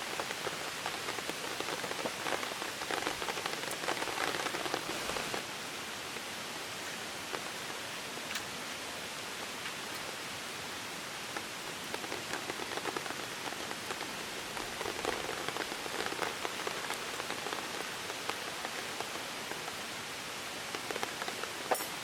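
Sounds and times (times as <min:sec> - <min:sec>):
raindrops ticking: 0:00.0 - 0:05.5, 0:06.1 - 0:22.0
rain falling: 0:00.0 - 0:22.0.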